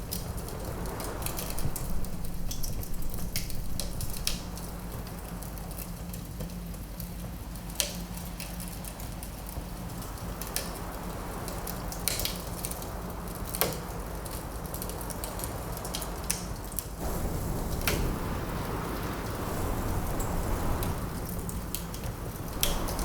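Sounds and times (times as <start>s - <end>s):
fire low rumble: 0.0s - 23.0s
wood fire crackling and popping: 0.0s - 23.0s.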